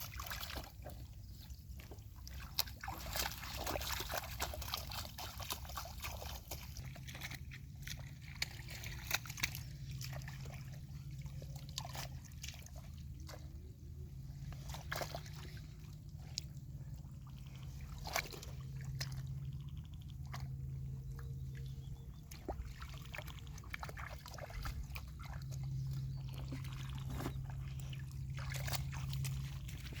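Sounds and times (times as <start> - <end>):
low hum: 0.0 - 30.0
muddy water sloshing and splashing: 0.0 - 30.0.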